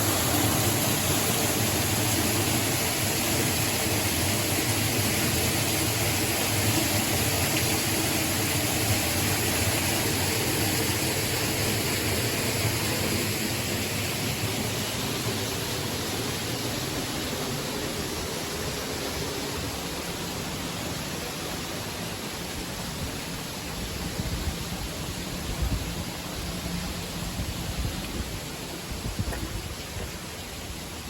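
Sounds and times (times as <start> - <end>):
waterfall and stream rushing: 0.0 - 31.0.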